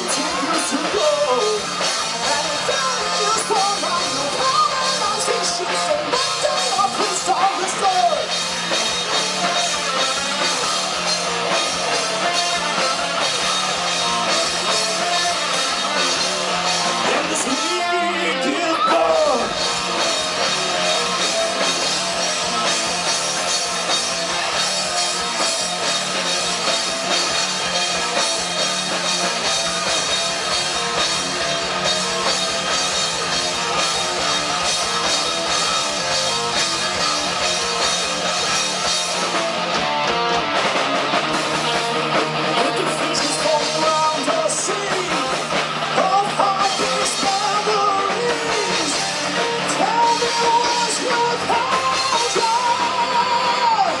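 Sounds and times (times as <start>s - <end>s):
bending electric guitar line: 0.0s - 54.0s
rock band playing: 0.0s - 54.0s.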